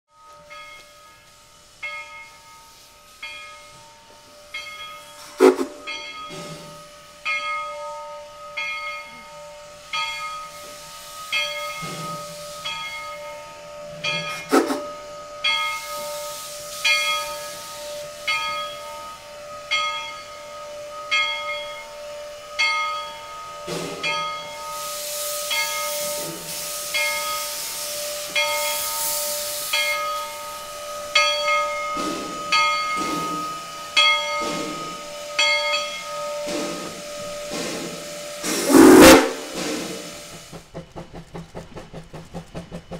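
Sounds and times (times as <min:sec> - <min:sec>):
locomotive bell ringing: 0:00.1 - 0:37.5
steam hissing: 0:01.0 - 0:07.4, 0:09.2 - 0:21.0, 0:21.8 - 0:42.9.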